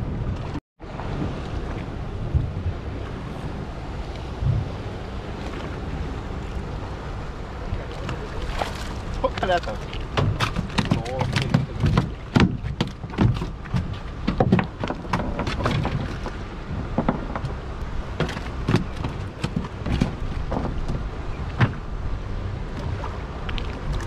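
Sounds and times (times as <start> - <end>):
low rumble: 0.0 - 24.0
water splashing against boat hull: 0.0 - 24.0.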